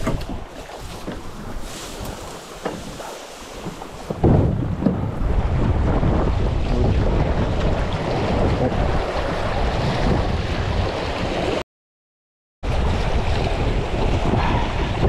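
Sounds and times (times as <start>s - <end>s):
wind buffeting microphone: 0.0s - 11.6s, 12.6s - 15.0s.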